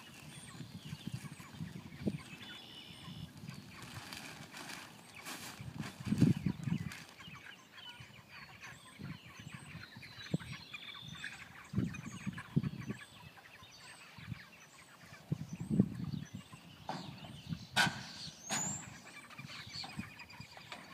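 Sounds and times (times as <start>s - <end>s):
chickens clucking and peeping: 0.0s - 20.9s.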